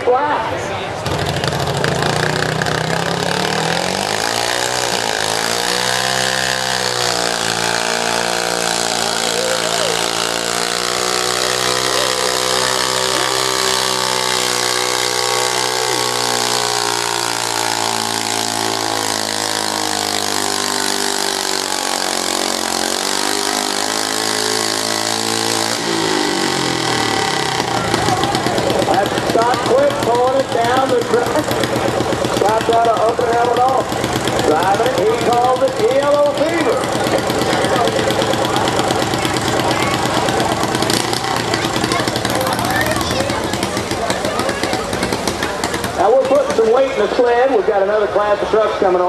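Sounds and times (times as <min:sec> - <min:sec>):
tractor engine revving: 0:00.0 - 0:49.0.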